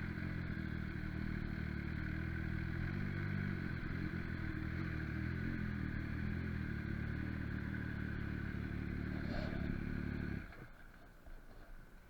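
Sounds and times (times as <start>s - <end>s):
motorcycle engine running steadily: 0.0s - 10.8s.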